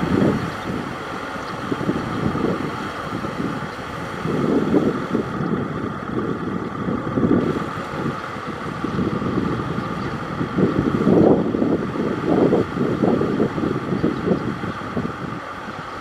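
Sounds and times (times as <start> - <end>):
tractor engine running: 0.0 - 16.0
wind on microphone: 0.0 - 16.0.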